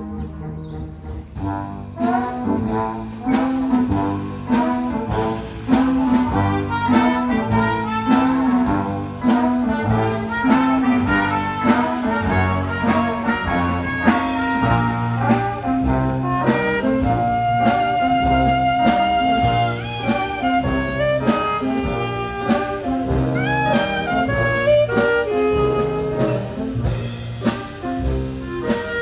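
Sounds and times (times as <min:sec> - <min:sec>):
wind band playing lively piece: 0:00.0 - 0:29.0
percussion striking the beat: 0:01.4 - 0:29.0.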